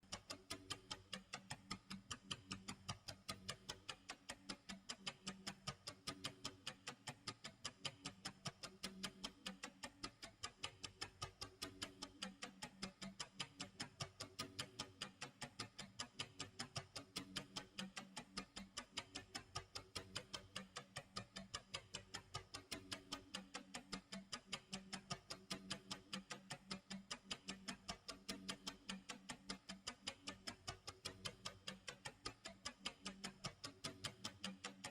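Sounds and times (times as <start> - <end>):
clock ticking: 0.0 - 34.9.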